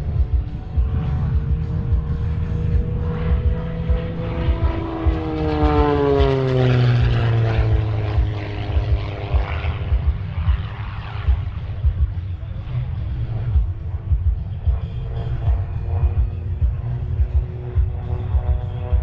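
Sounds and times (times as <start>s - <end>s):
propeller aircraft flying past: 0.0s - 19.0s.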